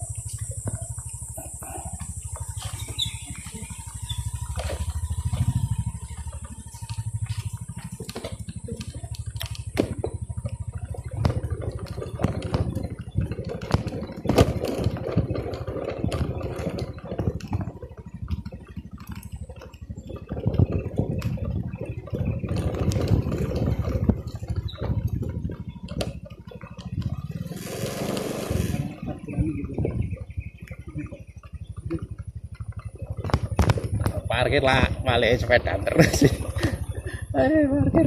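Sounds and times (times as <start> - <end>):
motorcycle engine running: 0.0 - 38.0
knocks and rattles: 0.3 - 36.9.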